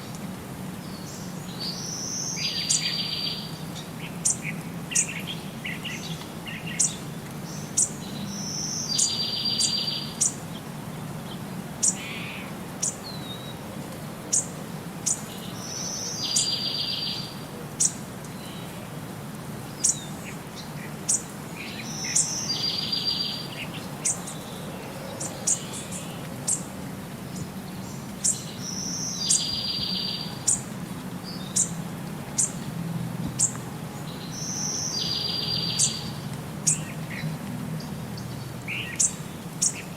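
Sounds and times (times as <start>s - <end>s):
birds chirping: 0.8s - 13.6s, 14.3s - 19.0s, 19.6s - 39.9s.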